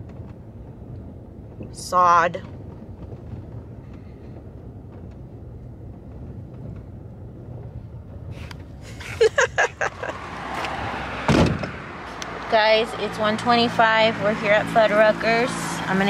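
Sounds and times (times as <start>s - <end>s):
road and engine hum in car: 0.0s - 16.0s.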